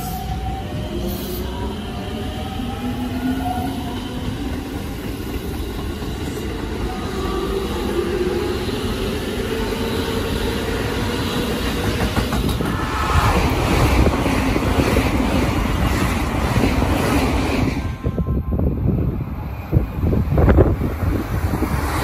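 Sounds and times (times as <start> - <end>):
express train passing at speed: 0.0 - 22.0.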